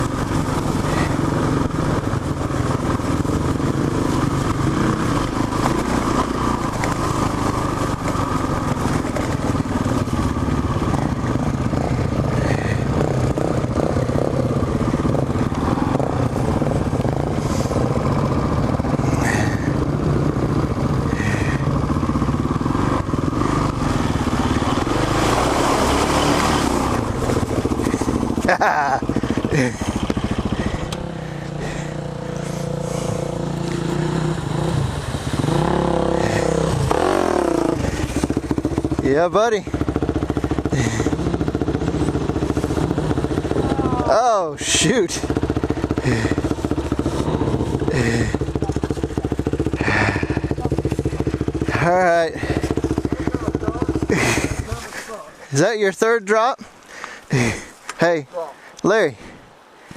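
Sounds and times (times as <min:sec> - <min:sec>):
motorcycle engine running: 0:00.0 - 0:59.6.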